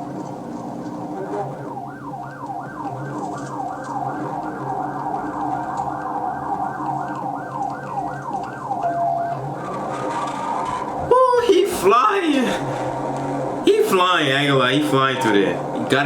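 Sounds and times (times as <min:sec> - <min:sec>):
police siren yelping: 0:00.0 - 0:16.0.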